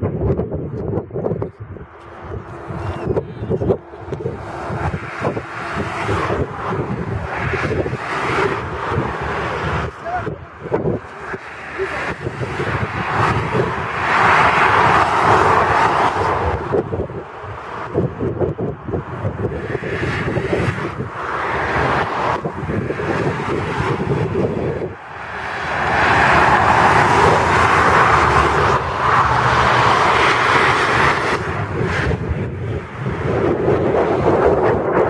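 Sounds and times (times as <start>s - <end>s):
fast motorway traffic: 0.0s - 35.0s
wind buffeting microphone: 0.0s - 35.0s.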